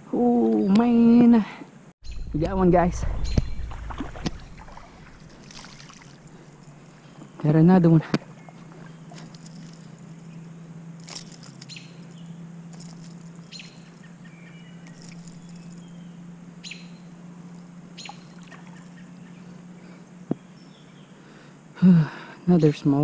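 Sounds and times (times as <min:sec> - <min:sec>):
steady low hum: 0:01.8 - 0:23.0
small birds chirping: 0:02.0 - 0:21.6.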